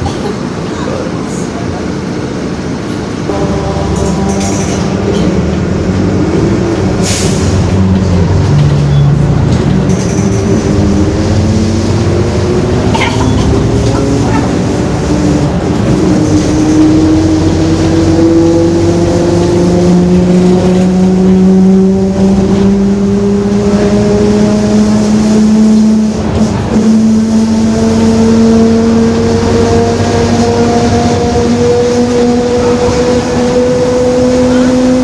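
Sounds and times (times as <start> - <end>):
bus differential whining: 0.0 - 35.0.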